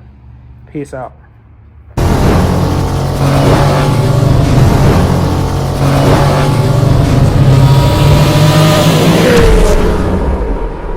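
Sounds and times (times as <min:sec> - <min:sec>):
loud car engine revving: 0:02.0 - 0:10.9.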